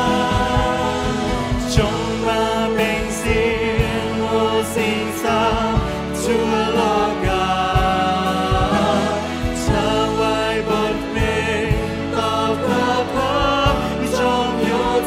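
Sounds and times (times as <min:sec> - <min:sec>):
backing singers: 0:00.0 - 0:15.0
drums: 0:00.0 - 0:15.0
keyboard: 0:00.0 - 0:15.0
man singing lead: 0:00.0 - 0:15.0.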